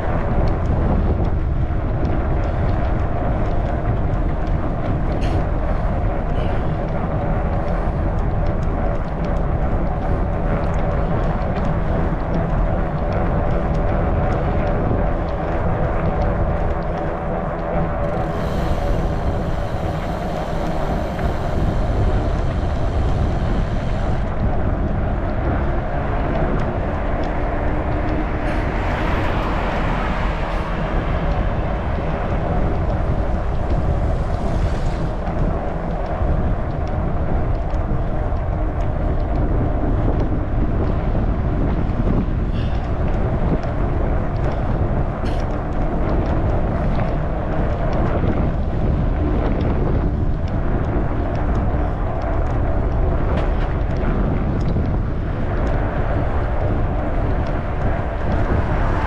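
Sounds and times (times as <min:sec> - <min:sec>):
bike tyres rolling on pavement: 0:00.0 - 0:59.0
wind buffeting microphone: 0:00.0 - 0:59.0.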